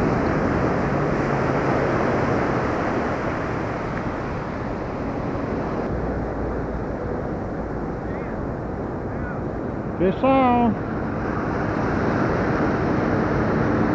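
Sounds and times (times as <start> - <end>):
surf breaking on beach: 0.0 - 13.9
wind buffeting microphone: 0.0 - 13.9.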